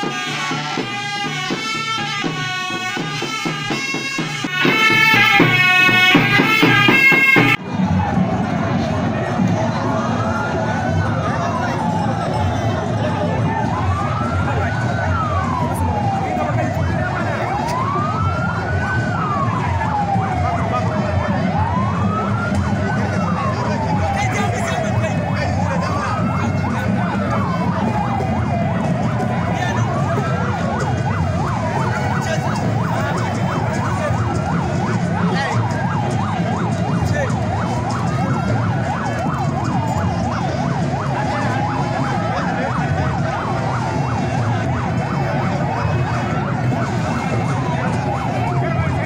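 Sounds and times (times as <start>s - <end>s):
crowd noise: 0.0s - 49.0s
siren wailing: 0.0s - 49.0s.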